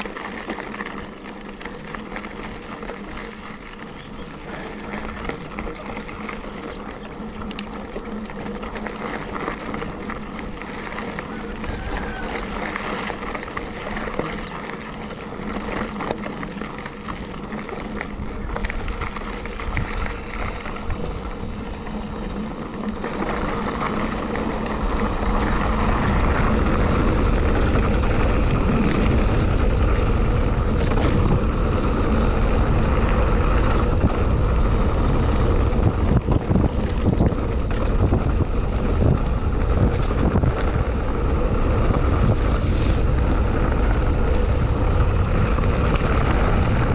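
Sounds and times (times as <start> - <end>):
bike rattling over bumps: 0.0 - 46.9
bike tyres on rough ground: 0.0 - 46.9
wind on microphone: 3.5 - 16.3, 17.9 - 46.9.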